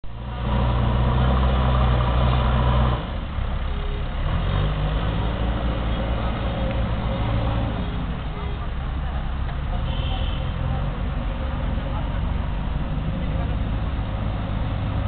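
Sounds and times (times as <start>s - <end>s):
diesel engine droning under load: 0.0s - 15.0s.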